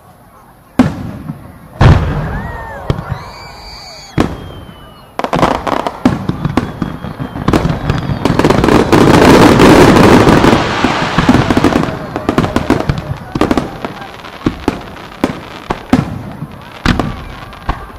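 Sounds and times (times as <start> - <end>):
crackle of small firework bursts: 0.0 - 17.9
firework whistle: 0.6 - 17.9
firework bangs and bursts: 0.7 - 17.9.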